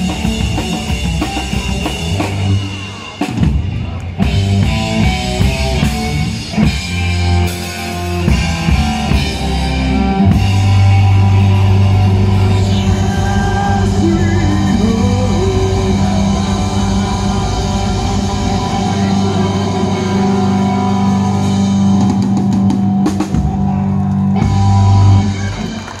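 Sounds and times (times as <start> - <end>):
drum kit: 0.0 - 26.0
electric guitar low chords: 0.0 - 26.0.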